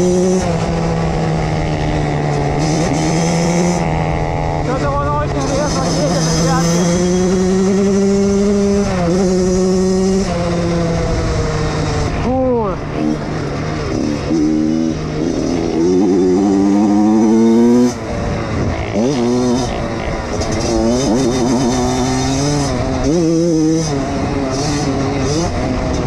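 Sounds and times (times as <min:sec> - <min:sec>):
pit bike engine revving: 0:00.0 - 0:26.0.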